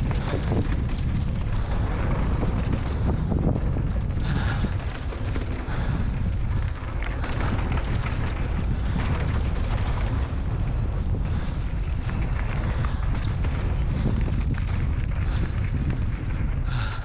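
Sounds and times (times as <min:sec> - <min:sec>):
bike clicks and knocks: 0:00.0 - 0:16.9
wind rumbling on microphone: 0:00.0 - 0:17.0.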